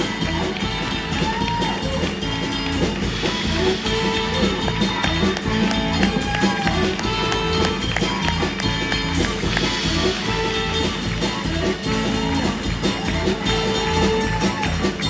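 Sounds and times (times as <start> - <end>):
drum kit: 0.0 - 15.0.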